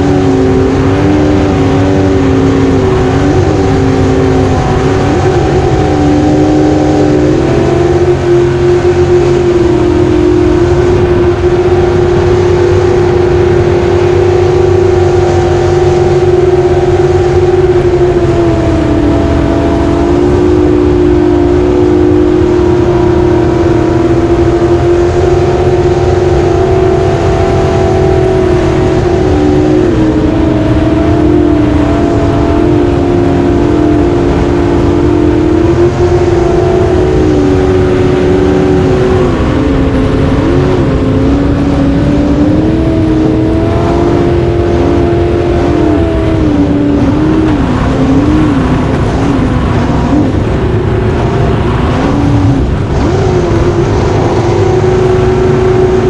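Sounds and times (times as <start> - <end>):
jet boat engine at high revs: 0.0 - 56.0.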